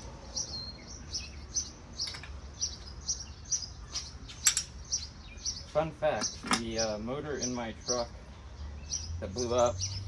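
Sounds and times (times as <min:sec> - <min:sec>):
small bird chirping: 0:00.2 - 0:10.0.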